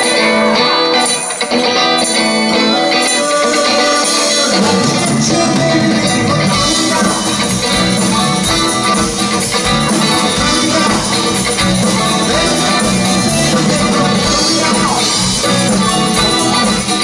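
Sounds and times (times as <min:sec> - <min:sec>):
band playing rock song: 0:00.0 - 0:17.0.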